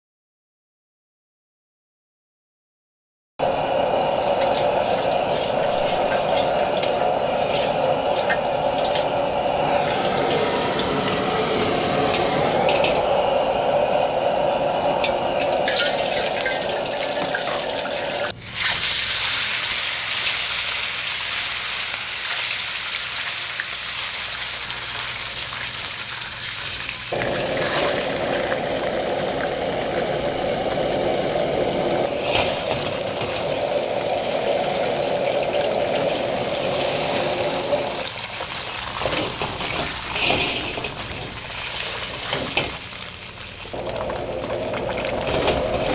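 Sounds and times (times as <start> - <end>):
gas stove drone: 3.4 - 18.6, 19.6 - 45.9
oil sizzling in a wok: 3.4 - 45.9.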